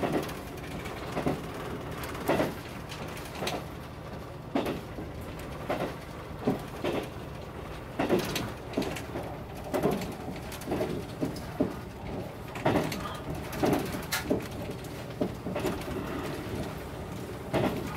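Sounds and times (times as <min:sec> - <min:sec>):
train wheels clacking: 0:00.0 - 0:03.7, 0:04.5 - 0:07.2, 0:07.9 - 0:17.9
train running rumble: 0:00.0 - 0:17.9.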